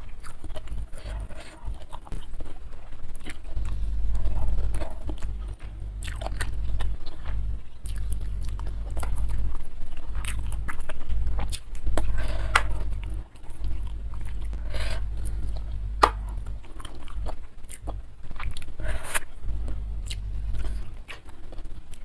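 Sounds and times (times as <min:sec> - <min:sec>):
person chewing with mouth clicks: 0:00.0 - 0:22.0
steady low hum: 0:00.0 - 0:22.0.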